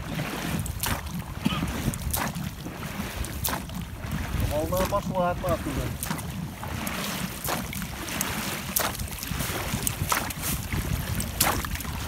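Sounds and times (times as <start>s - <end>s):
oars splashing in water: 0.0s - 12.0s
wind rumble on microphone: 0.0s - 12.0s.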